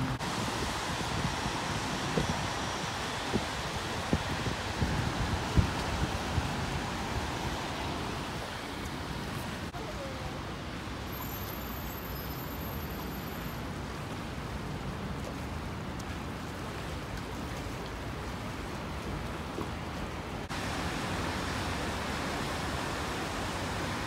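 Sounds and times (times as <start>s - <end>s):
steady outdoor rushing noise: 0.0s - 24.0s.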